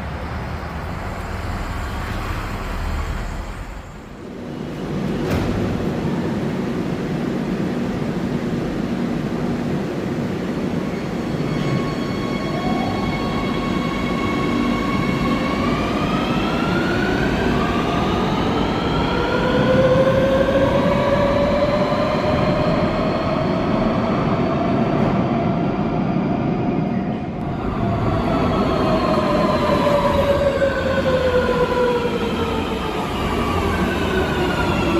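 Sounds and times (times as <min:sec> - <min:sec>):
electric train rumbling: 0:00.0 - 0:34.9.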